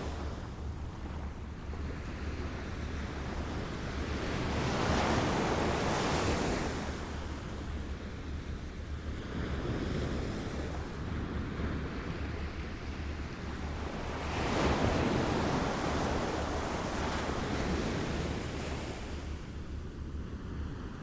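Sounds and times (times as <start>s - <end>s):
small waves lapping at shore: 0.0s - 19.7s.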